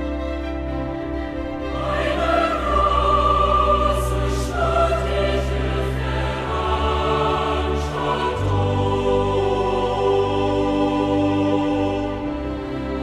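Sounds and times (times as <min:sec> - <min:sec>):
choral opera-like singing: 0:01.6 - 0:13.0.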